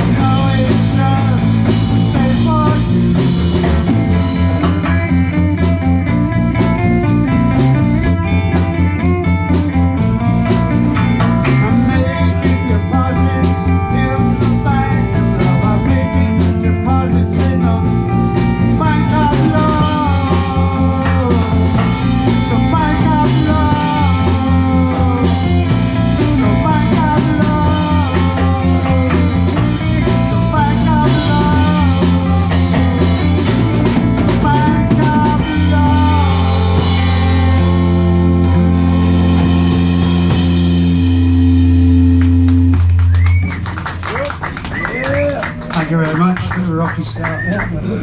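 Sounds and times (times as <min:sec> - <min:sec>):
bass guitar: 0:00.0 - 0:48.0
drums: 0:00.0 - 0:48.0
lead electric guitar: 0:00.0 - 0:48.0.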